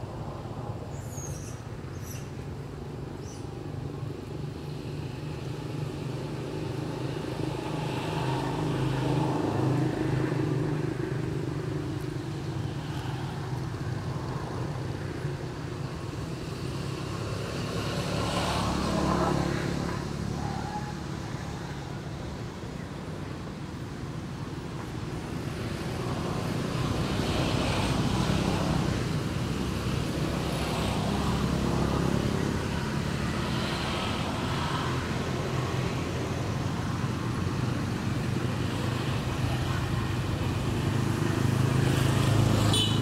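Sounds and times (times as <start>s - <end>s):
motor vehicles passing: 0.0s - 43.0s.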